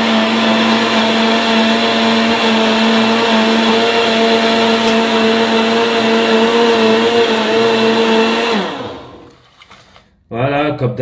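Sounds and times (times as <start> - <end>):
blender motor whining: 0.0 - 9.4.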